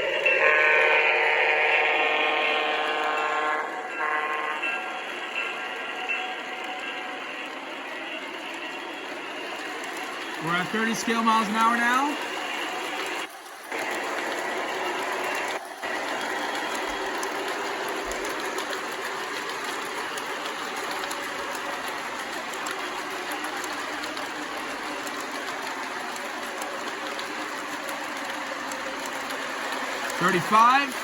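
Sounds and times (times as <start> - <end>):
model train whirring clatter: 0.0 - 31.0.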